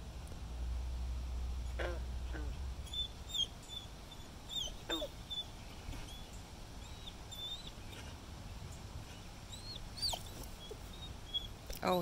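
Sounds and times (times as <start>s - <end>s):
low background rumble: 0.0s - 12.0s
small birds chirping: 1.6s - 12.0s.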